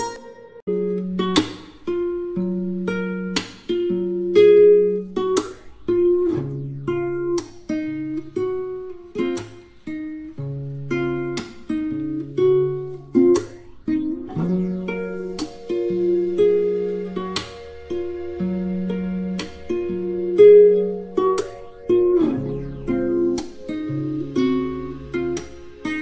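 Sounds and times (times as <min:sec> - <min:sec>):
acoustic guitar chords: 0:00.0 - 0:26.0.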